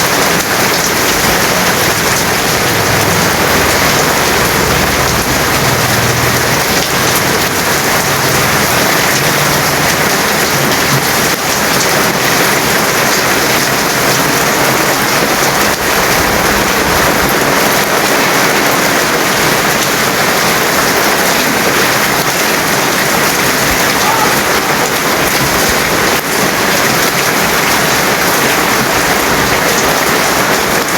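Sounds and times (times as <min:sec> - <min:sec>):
heavy rain pattering: 0:00.0 - 0:30.9.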